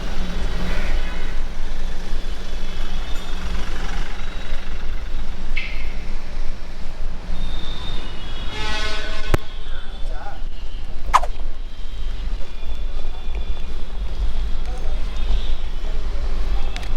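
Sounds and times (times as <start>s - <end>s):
low rumble of motor vehicles: 0.0s - 16.9s.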